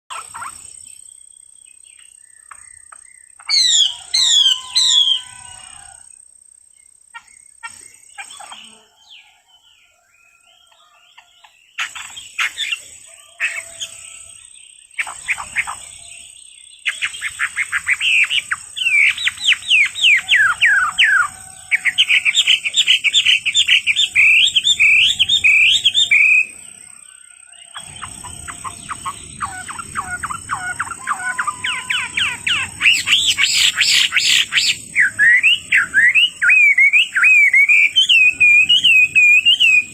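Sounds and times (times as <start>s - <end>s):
songbird chirping: 0.1s - 39.9s.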